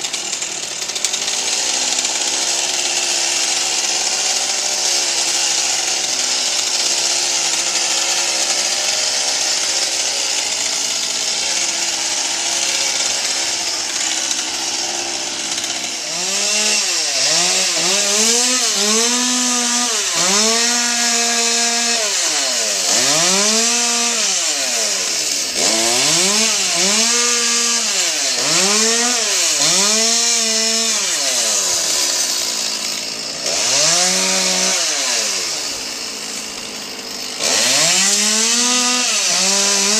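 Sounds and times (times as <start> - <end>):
chainsaw cutting and revving: 0.0 - 39.9.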